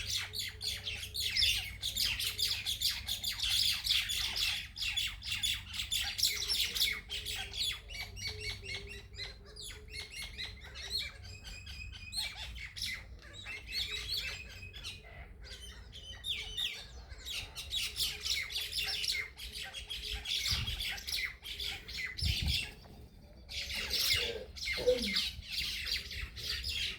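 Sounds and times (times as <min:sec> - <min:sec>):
birds chirping and squawking: 0:00.0 - 0:26.9.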